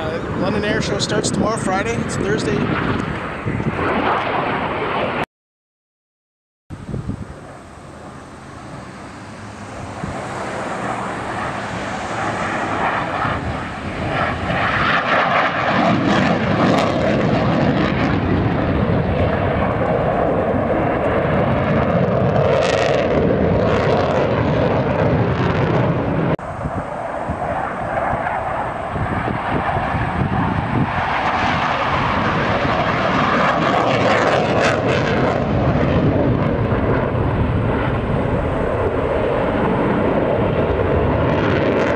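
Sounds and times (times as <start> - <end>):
jet flying overhead: 0.0 - 5.3, 6.7 - 41.9.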